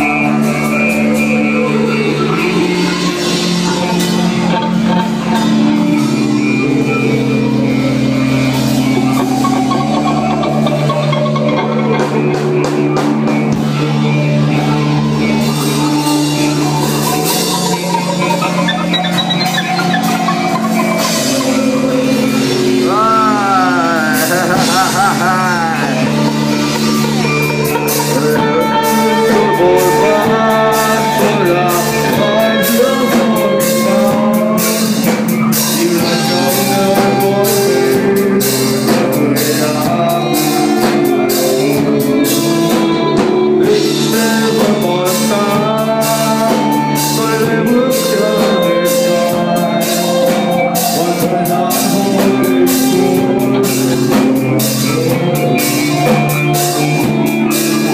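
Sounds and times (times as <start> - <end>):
bass guitar: 0.0 - 57.9
drum kit: 0.0 - 57.9
electric guitar: 0.0 - 57.9
person singing: 0.0 - 57.9.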